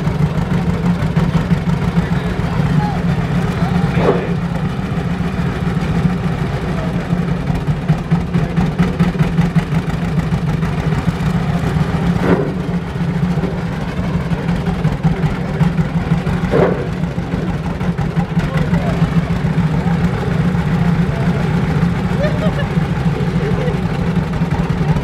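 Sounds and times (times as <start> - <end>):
tractor engine running at low speed: 0.0 - 25.0.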